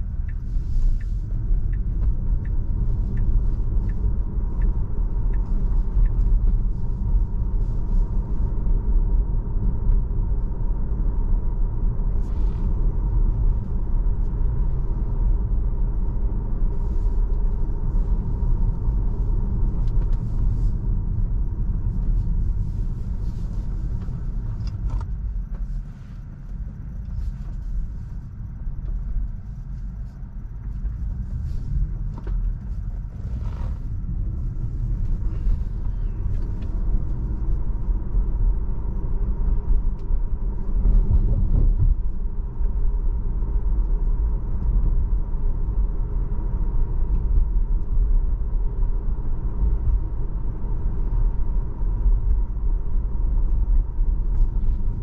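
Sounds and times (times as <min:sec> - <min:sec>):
road and tyre rumble in car: 0:00.0 - 0:55.0.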